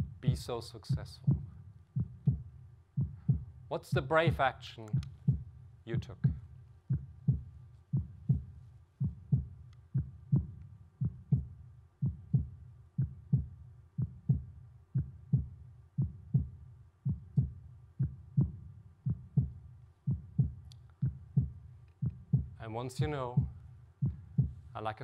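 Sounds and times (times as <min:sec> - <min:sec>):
heartbeat double thump: 0:00.0 - 0:24.7.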